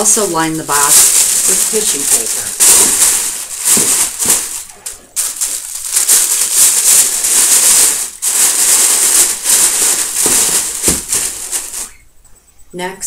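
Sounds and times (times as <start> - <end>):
tissue paper crinkling: 0.0 - 12.1.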